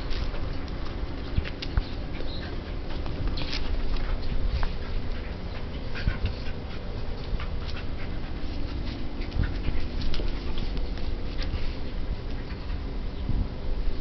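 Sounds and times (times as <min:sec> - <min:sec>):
dogs play-fighting: 0:00.0 - 0:13.3.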